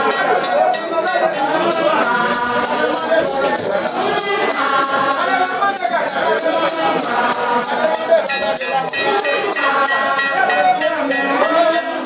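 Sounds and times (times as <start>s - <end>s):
group of voices singing: 0.0s - 12.0s
rattle shaken in a beat: 0.0s - 12.0s.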